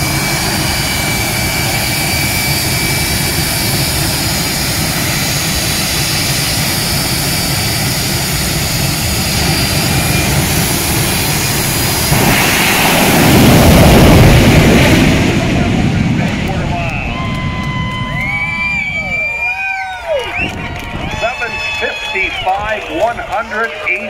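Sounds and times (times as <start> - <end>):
high steady whine: 0.0 - 19.6
jet engine rumble: 0.0 - 24.0.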